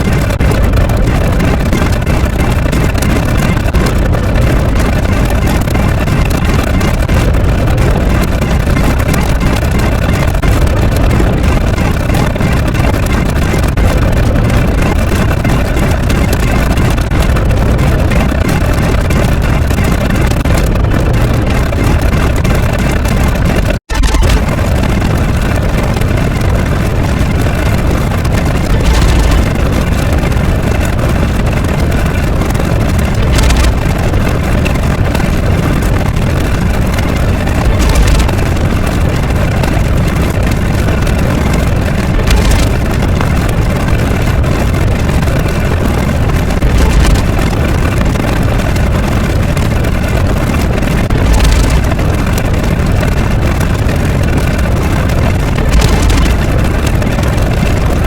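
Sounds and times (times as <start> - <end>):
engine-like rumble: 0.0 - 58.0.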